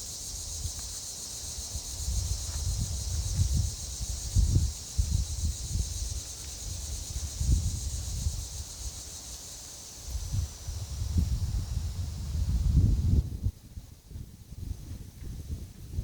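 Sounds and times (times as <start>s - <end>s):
insects chorus: 0.0s - 16.0s
wind gusting against microphone: 1.5s - 9.0s, 10.0s - 16.0s.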